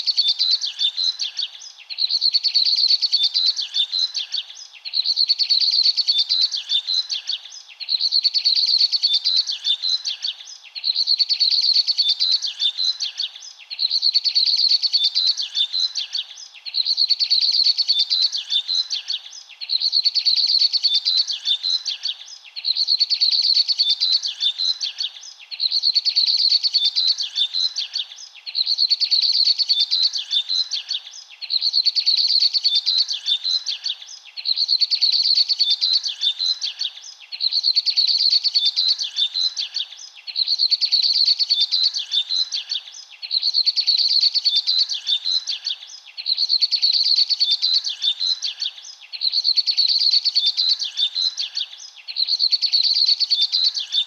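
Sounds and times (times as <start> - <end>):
small birds twittering: 0.0 - 54.0.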